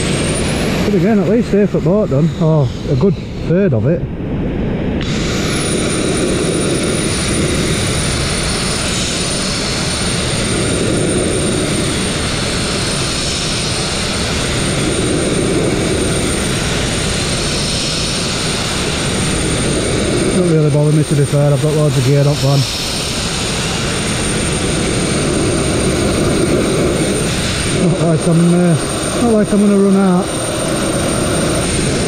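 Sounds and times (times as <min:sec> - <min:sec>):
abrasive blasting hiss: 0:05.0 - 0:32.0.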